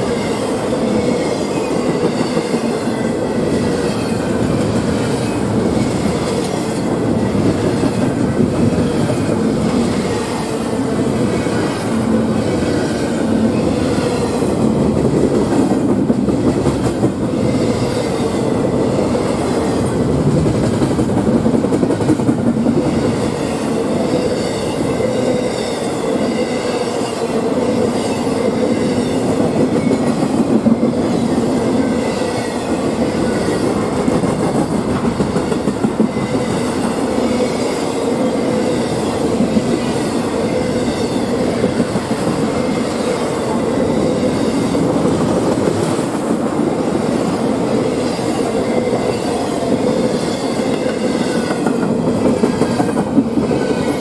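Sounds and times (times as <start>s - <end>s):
steel wheels rolling on rail: 0.0s - 54.0s.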